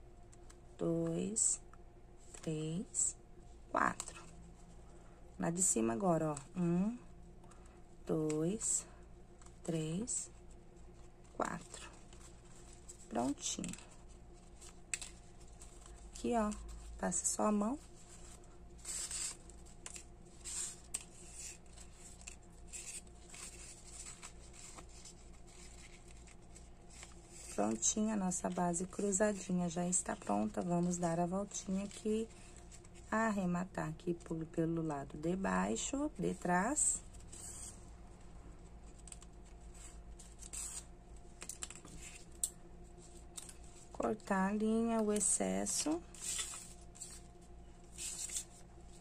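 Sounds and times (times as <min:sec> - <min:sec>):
low steady hum: 0:00.0 - 0:49.0
ribbon rustling and rubbing: 0:02.2 - 0:06.7, 0:07.6 - 0:49.0.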